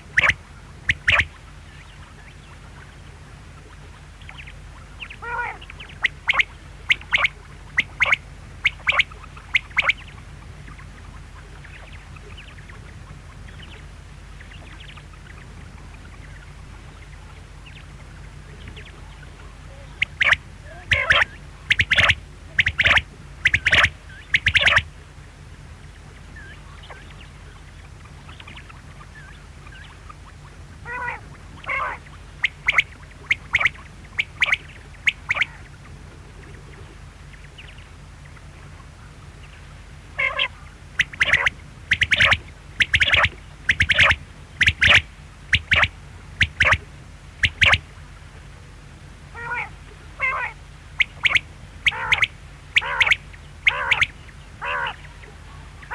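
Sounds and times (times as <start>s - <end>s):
quail calling: 0.0s - 24.9s, 26.3s - 48.0s, 49.3s - 55.9s
steady low hum: 0.0s - 55.9s.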